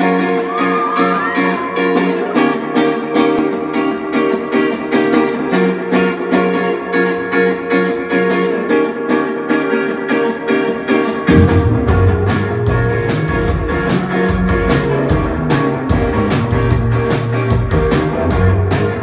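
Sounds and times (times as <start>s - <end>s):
electric guitar strumming chords: 1.4s - 19.0s.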